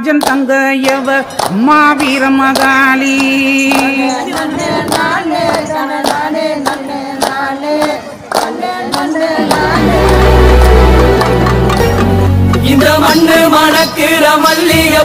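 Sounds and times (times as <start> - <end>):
sharp clapping beat: 0.0 - 12.7
voices singing together: 0.5 - 15.0.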